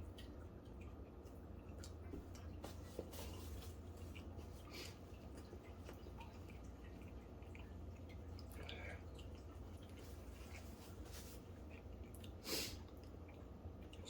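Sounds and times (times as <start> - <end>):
chewing sandwich: 0.0 - 14.0.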